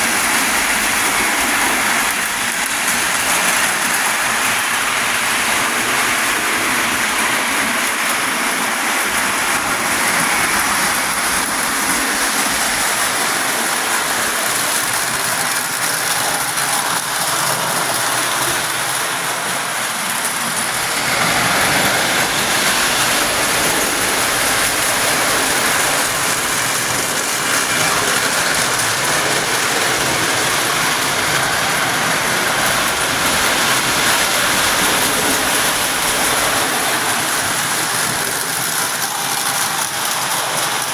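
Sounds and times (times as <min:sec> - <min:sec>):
toy train whirring rattle: 0:00.0 - 0:40.9.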